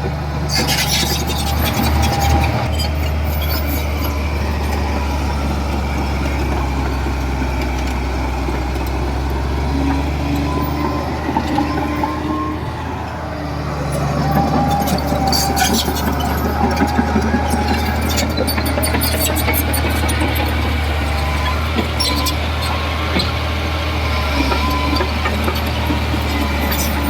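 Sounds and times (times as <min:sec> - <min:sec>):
steel tracks squealing: 0:00.0 - 0:06.5, 0:09.4 - 0:27.0
bulldozer diesel engine running: 0:00.0 - 0:27.0.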